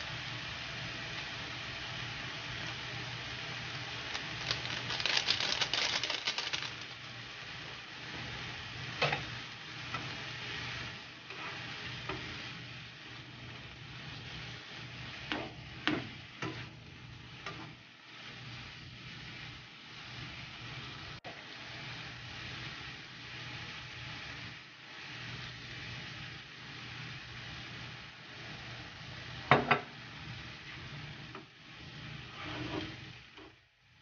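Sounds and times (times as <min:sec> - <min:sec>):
food sizzling in a frying pan: 0:00.0 - 0:34.0.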